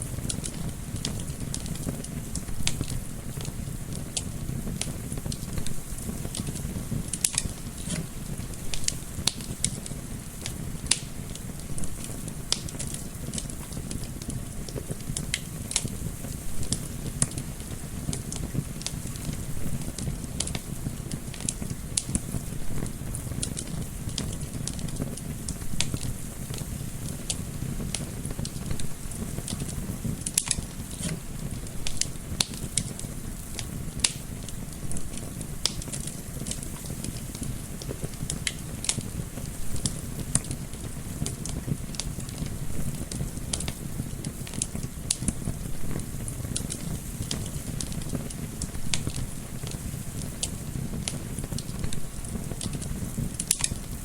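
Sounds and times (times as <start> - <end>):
low rumble of burning: 0.0 - 54.0
wood fire crackling and popping: 0.0 - 54.0.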